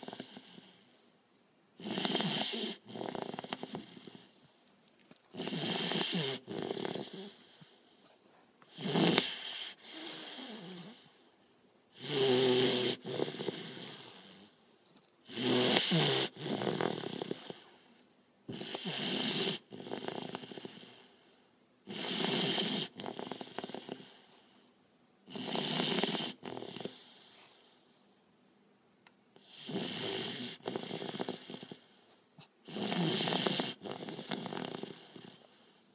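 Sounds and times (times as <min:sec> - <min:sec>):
pet snoring: 0:00.0 - 0:01.0, 0:01.8 - 0:04.4, 0:05.3 - 0:07.9, 0:08.7 - 0:11.2, 0:11.9 - 0:14.6, 0:15.2 - 0:17.9, 0:18.5 - 0:24.5, 0:25.2 - 0:27.8, 0:29.4 - 0:35.8.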